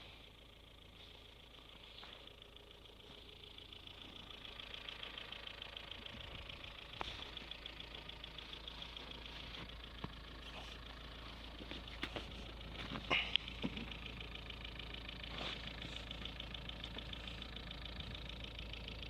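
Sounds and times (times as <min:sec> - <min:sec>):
petrol engine idling: 0:00.0 - 0:19.0.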